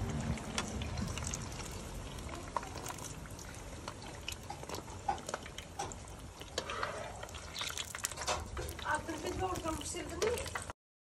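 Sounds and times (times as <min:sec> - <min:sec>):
dough sizzling in hot oil: 0:00.0 - 0:10.8.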